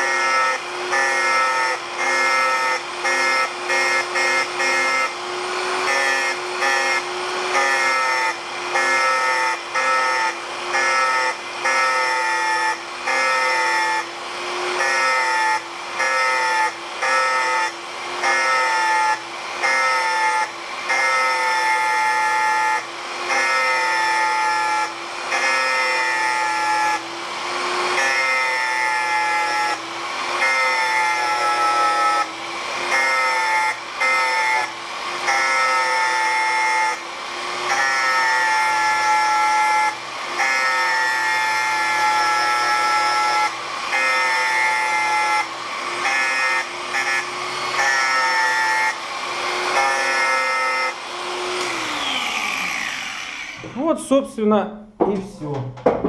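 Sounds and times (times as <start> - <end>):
angle grinder cutting metal: 0.0 - 53.9.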